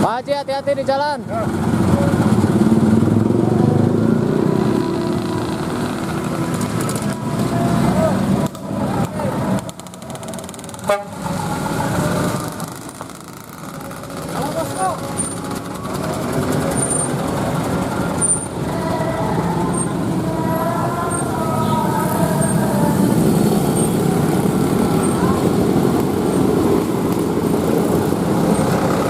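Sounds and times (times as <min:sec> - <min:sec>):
bus diesel engine running: 0:00.0 - 0:29.0
road noise: 0:00.0 - 0:29.0.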